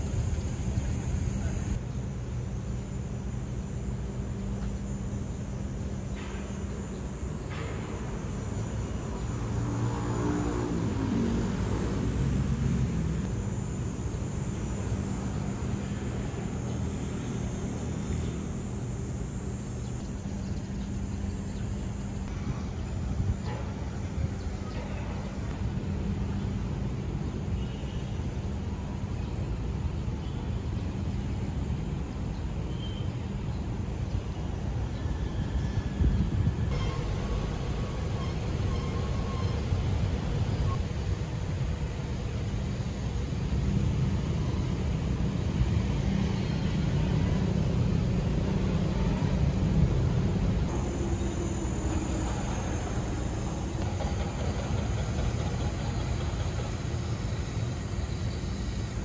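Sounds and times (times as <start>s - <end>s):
constant low hum: 0.0s - 59.0s
low rumble of city engines: 0.0s - 59.0s.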